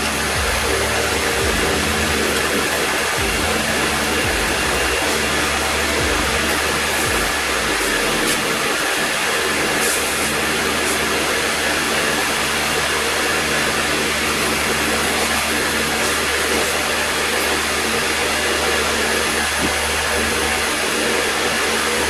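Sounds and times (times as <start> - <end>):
pressure washer spraying water: 0.0 - 22.0.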